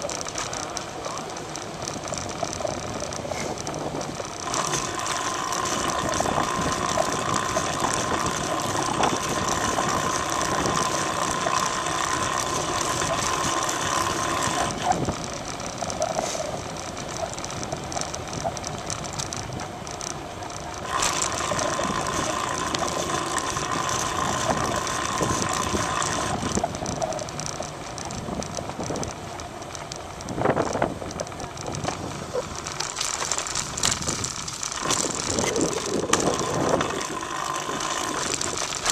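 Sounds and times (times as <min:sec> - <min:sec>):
bicycle tyres on asphalt: 0:00.0 - 0:38.9
freewheel ratcheting: 0:00.0 - 0:38.9
steady high whine: 0:00.0 - 0:38.9.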